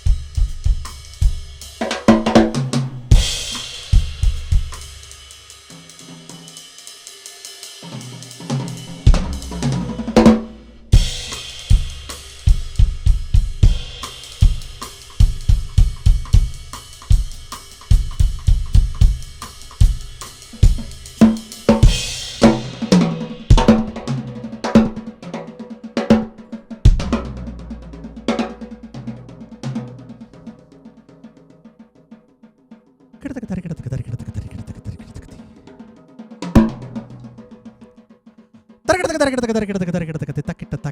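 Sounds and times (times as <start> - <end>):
drum kit solo: 0.0 - 30.6, 33.2 - 35.8, 36.4 - 37.6, 38.9 - 40.9.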